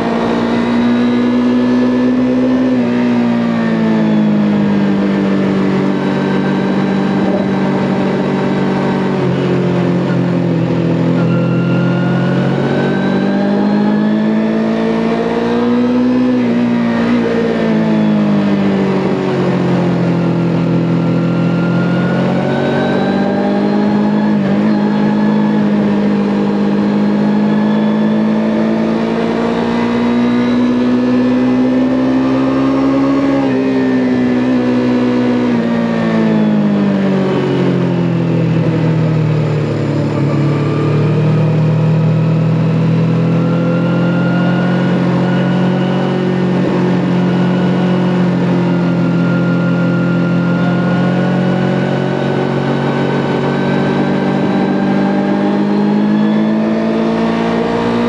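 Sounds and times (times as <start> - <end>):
motorcycle engine revving: 0.0 - 58.0
wind and road noise: 0.0 - 58.0.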